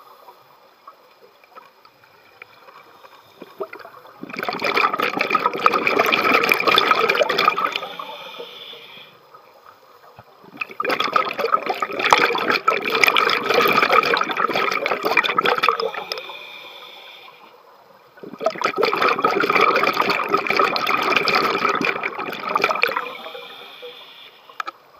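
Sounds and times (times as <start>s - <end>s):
scuba regulator bubbles underwater: 0.9s - 17.3s, 18.1s - 24.3s.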